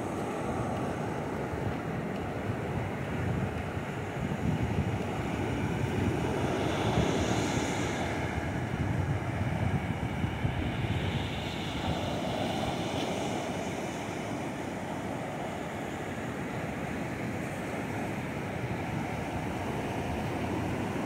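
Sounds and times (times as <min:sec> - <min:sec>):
waves breaking on beach: 0:00.0 - 0:21.0
wind rumbling on microphone: 0:00.0 - 0:21.0.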